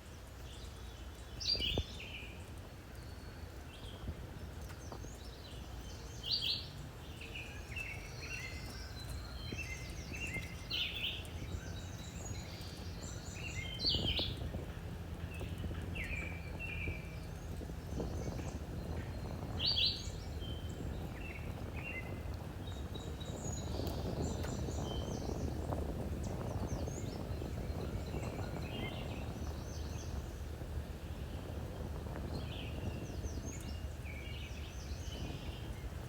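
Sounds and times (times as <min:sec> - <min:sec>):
small birds chirping: 0:00.0 - 0:36.0
low steady rumble: 0:03.1 - 0:36.0.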